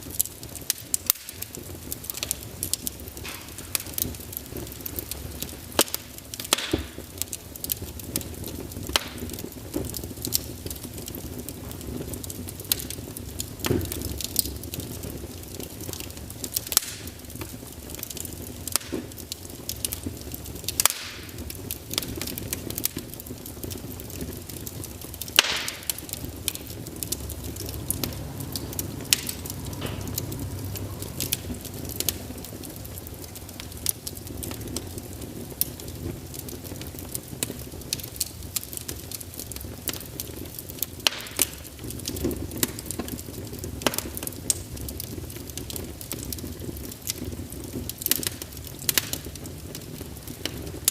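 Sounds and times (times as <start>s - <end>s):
crackles and pops of burning logs: 0.0s - 50.9s
fire hissing: 0.0s - 50.9s
fire rumbling: 0.0s - 50.9s.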